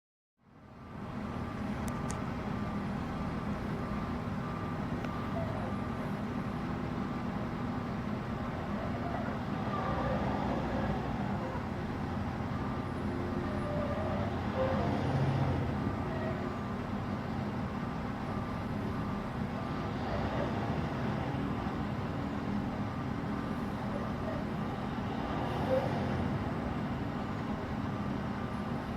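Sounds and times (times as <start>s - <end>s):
road traffic noise: 0.4s - 28.9s.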